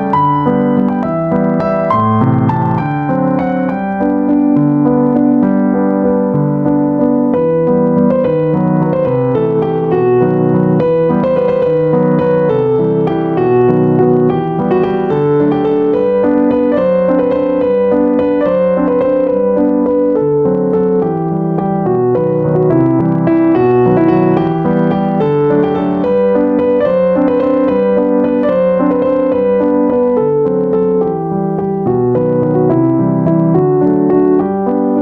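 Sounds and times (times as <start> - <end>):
piano piece: 0.0 - 35.0.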